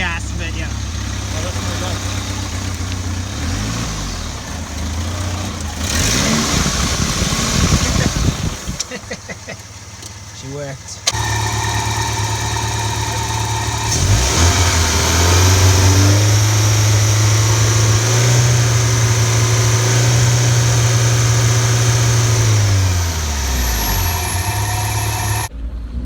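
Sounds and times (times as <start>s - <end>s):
petrol engine revving: 0.0s - 25.5s.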